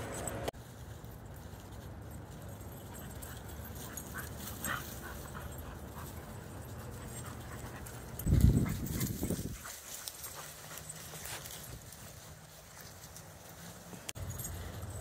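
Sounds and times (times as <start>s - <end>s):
dogs panting: 2.4s - 15.0s.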